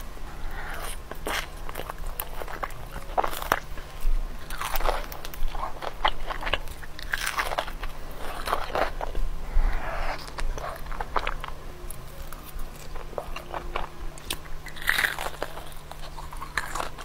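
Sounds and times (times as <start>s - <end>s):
person chewing crispy food: 0.0s - 17.0s.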